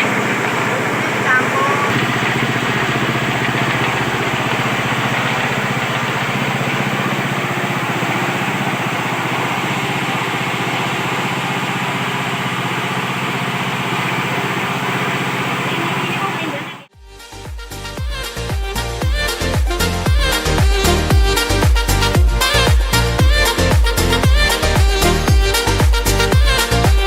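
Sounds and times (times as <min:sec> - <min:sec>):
grinding machine running: 0:00.0 - 0:17.0, 0:19.1 - 0:27.0.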